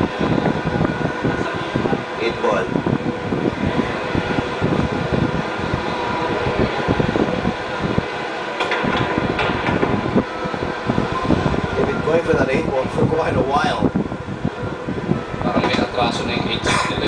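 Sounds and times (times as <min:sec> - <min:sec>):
steady rushing fan noise: 0:00.0 - 0:17.0.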